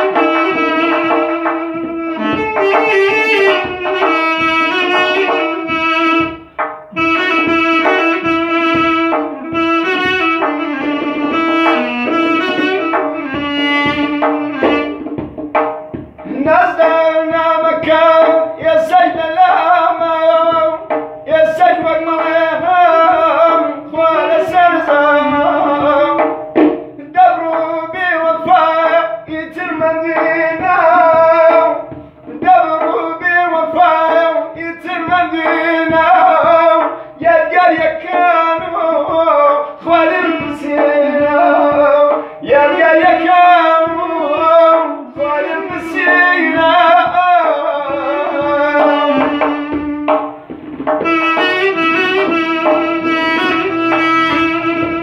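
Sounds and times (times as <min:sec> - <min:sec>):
man singing: 0:00.0 - 0:15.1, 0:16.1 - 0:50.4, 0:51.0 - 0:55.0
instrumental accompaniment: 0:00.0 - 0:55.0
light drumming: 0:00.0 - 0:55.0.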